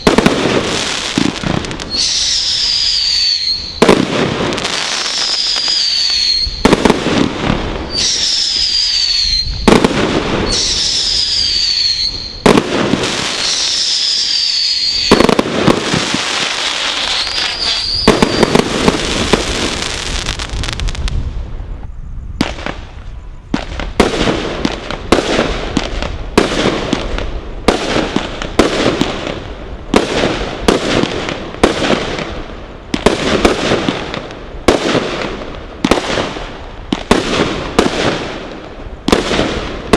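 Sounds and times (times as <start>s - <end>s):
firework bangs: 0.0s - 21.5s, 22.4s - 39.9s
whistling firework shots: 0.0s - 39.9s.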